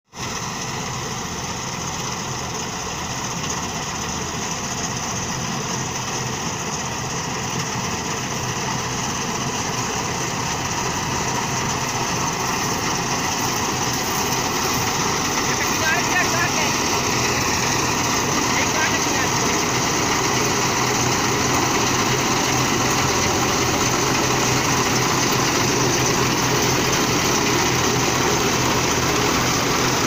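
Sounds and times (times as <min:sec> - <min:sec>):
combine harvester droning: 0:00.2 - 0:30.0.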